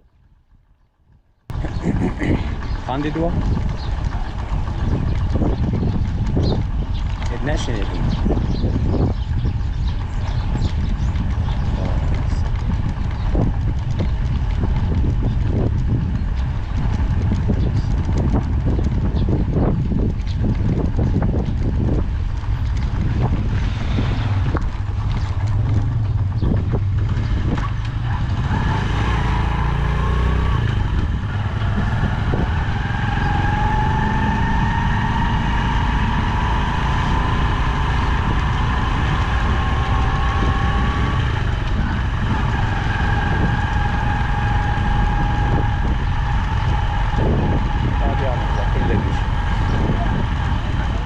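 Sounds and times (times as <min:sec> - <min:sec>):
motorcycle engine rumble: 0:00.0 - 0:51.0.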